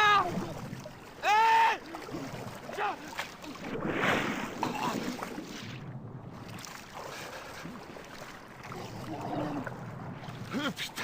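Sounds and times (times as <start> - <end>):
water rushing around a boat: 0.0 - 11.0
wind around a boat: 0.0 - 11.0.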